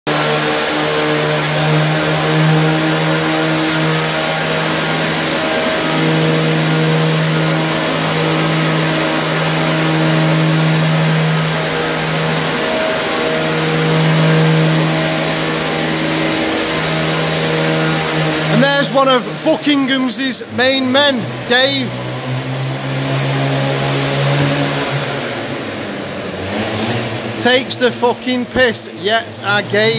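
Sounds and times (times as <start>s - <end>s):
cut-off saw cutting concrete: 0.1s - 29.9s.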